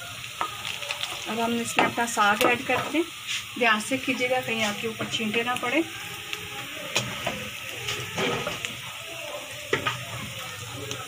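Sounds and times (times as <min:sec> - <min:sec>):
onions sizzling in a wok: 0:00.0 - 0:11.0.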